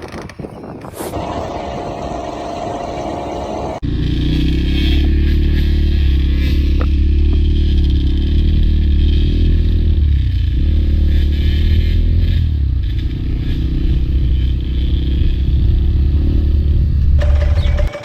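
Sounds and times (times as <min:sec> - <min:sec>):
dirt bike engine running hard: 0:01.1 - 0:18.0.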